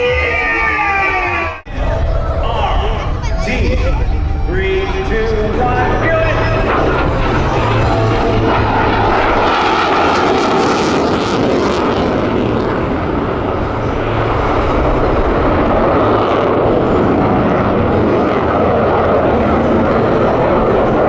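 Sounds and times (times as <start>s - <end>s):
jet engine at high power: 1.7s - 21.0s.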